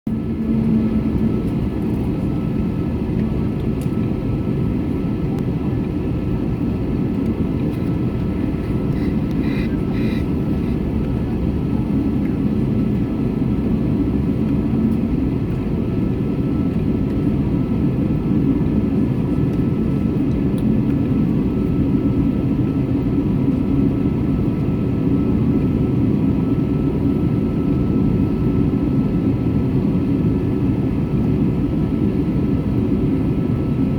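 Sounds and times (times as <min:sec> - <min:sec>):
jet engine rumble in cabin: 0:00.1 - 0:33.9.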